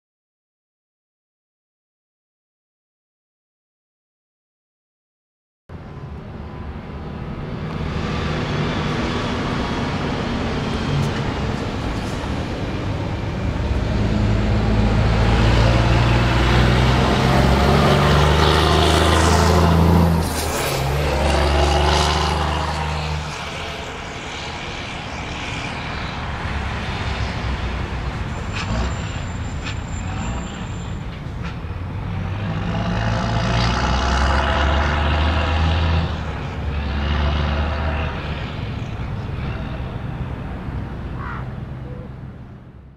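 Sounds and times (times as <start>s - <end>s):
truck diesel engine roaring past: 5.7s - 42.9s.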